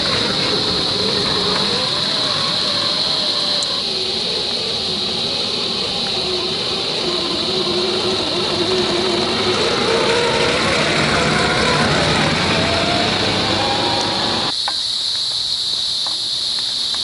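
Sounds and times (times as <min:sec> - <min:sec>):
electric motor whine: 0:00.0 - 0:14.5
steady high buzz: 0:00.0 - 0:17.0.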